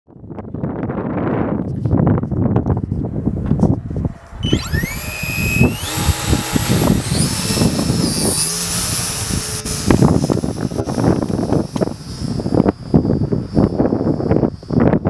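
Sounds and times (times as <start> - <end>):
wind buffeting microphone: 0.1 - 15.0
electric motor and propeller whine: 2.7 - 15.0.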